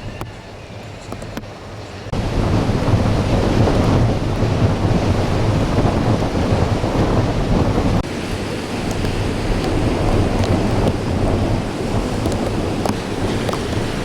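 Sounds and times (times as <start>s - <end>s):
heavy surf: 0.0s - 14.0s
rain: 0.0s - 14.0s
wind buffeting microphone: 0.0s - 14.0s.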